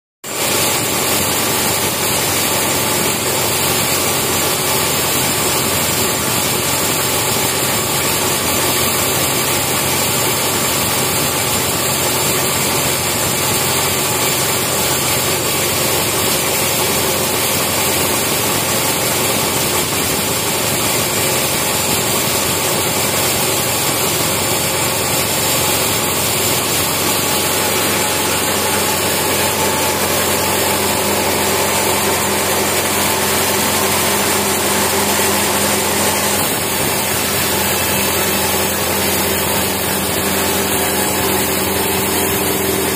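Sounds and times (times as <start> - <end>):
sawmill machine drone: 0.3 - 42.9.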